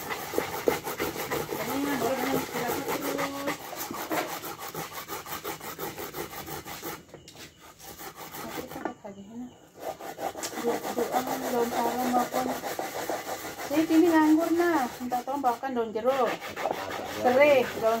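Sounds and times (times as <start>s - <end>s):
coconut grating rasps: 0.0s - 8.9s, 9.8s - 18.0s.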